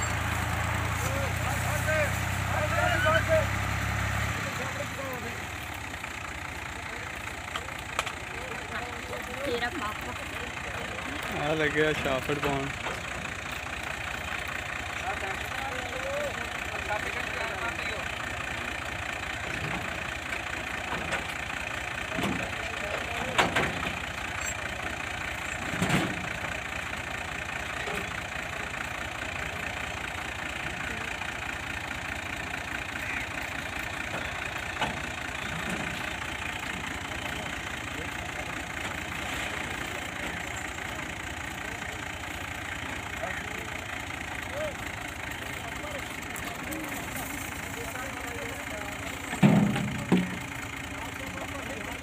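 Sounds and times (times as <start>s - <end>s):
diesel tractor engine idling: 0.0s - 52.0s.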